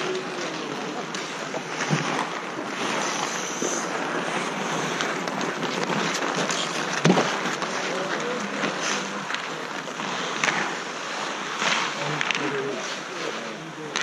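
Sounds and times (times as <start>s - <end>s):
stick and puck clacks: 0.0s - 13.2s
skate blades scraping ice: 0.0s - 14.0s.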